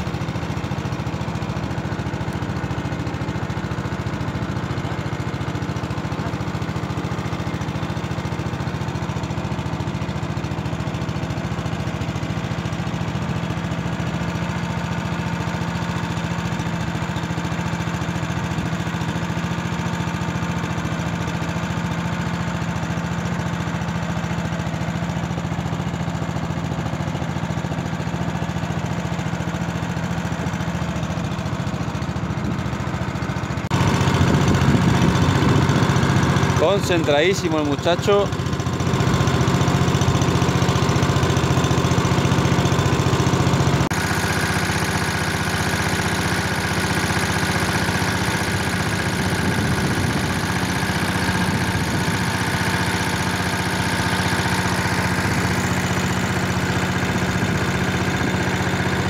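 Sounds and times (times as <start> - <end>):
small engine humming: 0.0 - 59.0.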